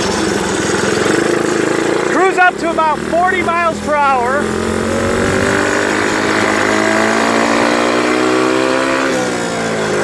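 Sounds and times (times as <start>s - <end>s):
small motorbike engine revving: 0.0s - 10.0s.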